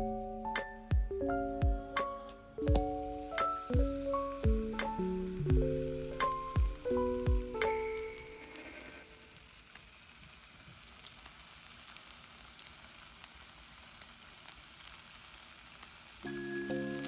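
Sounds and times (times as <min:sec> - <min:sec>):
faint sizzling hiss: 0:00.0 - 0:17.0
small crackles: 0:00.3 - 0:17.0.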